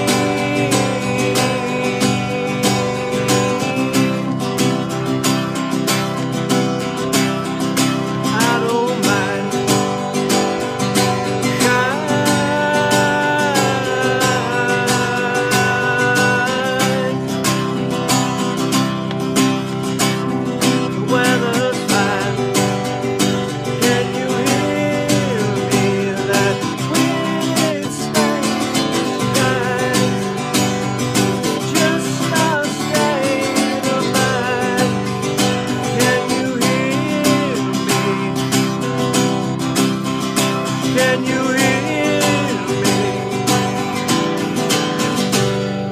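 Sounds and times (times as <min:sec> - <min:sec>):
man singing: 0:00.0 - 0:06.5, 0:07.1 - 0:18.8, 0:19.8 - 0:45.8
acoustic guitar strumming: 0:00.0 - 0:45.9.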